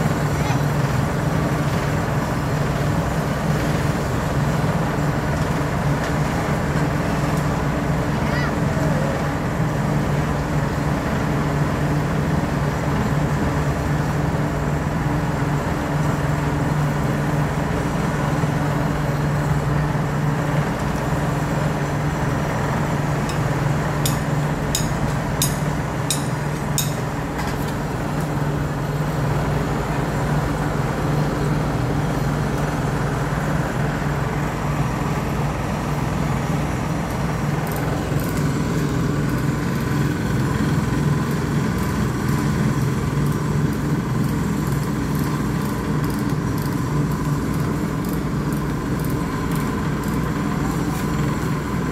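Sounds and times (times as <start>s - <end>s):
paving machine engine humming: 0.0s - 51.9s.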